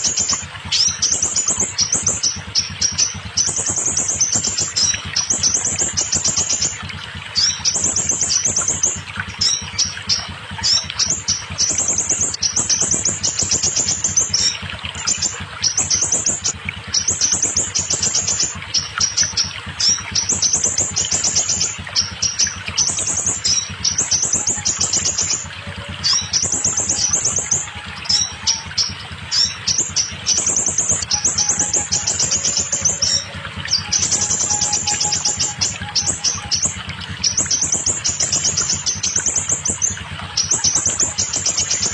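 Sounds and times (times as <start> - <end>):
bird song high rapid trills: 0.0 - 41.9.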